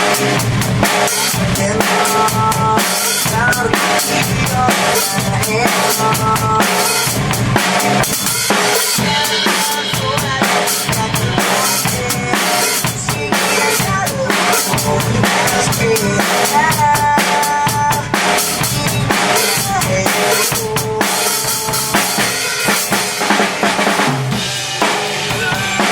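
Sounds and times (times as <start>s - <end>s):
drum kit playing: 0.0s - 25.9s
rock song recording: 0.0s - 25.9s.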